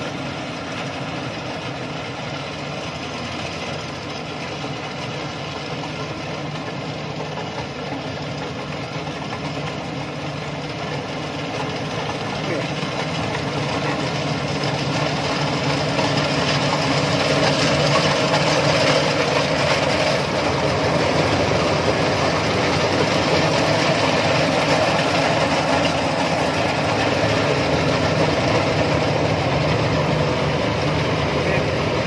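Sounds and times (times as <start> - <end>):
combine harvester running: 0.0 - 32.0.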